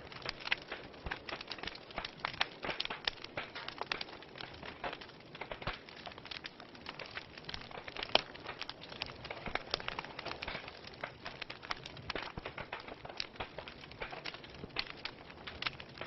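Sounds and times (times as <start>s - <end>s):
logs crackling in fireplace: 0.0s - 16.0s.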